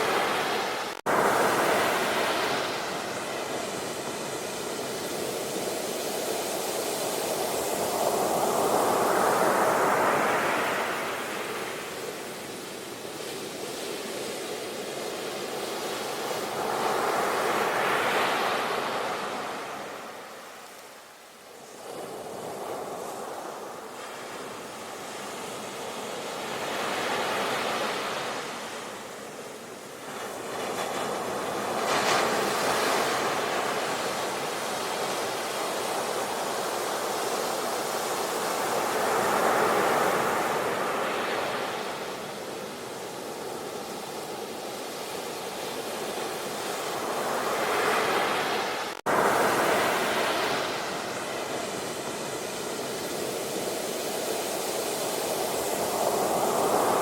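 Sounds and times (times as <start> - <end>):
ocean waves breaking: 0.0 - 20.7, 21.6 - 57.0.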